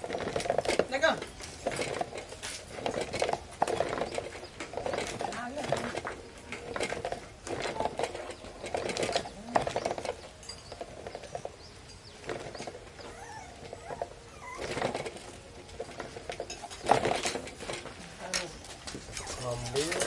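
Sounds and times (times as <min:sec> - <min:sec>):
toy truck rattling on concrete: 0:00.0 - 0:20.0.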